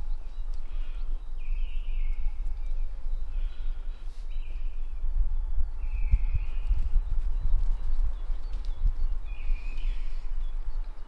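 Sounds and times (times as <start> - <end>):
bird calls: 0.0 - 11.0
wind buffeting microphone: 0.0 - 11.0.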